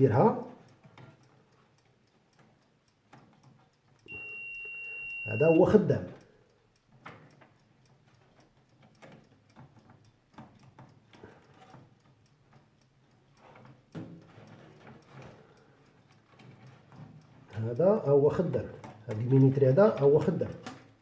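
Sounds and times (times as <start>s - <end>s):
mechanical timer ticking: 0.0s - 21.0s.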